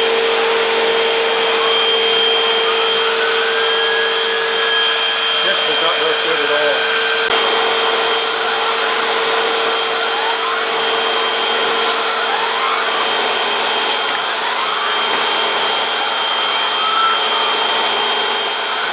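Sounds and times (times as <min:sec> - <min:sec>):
faint rising whistles: 0:00.0 - 0:18.9
vacuum cleaner running: 0:00.0 - 0:18.9.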